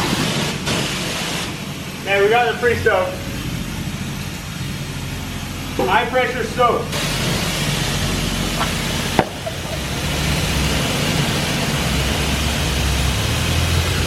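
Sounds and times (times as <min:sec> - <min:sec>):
pressure washer spraying hiss: 0:00.0 - 0:14.0.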